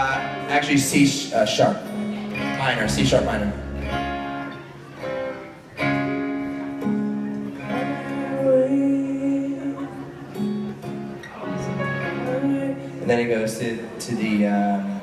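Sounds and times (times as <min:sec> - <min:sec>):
guitar chords strummed: 0:00.0 - 0:15.0.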